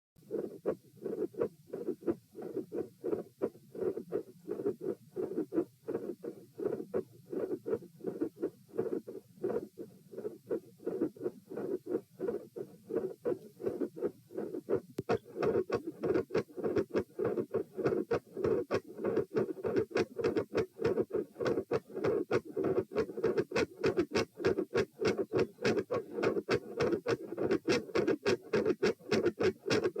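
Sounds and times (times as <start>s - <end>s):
heartbeat: 0.2s - 30.0s.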